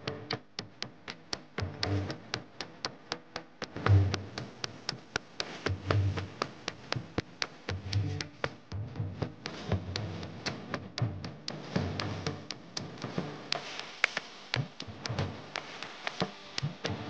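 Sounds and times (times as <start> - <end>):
fast clicking beat: 0.0 - 17.0.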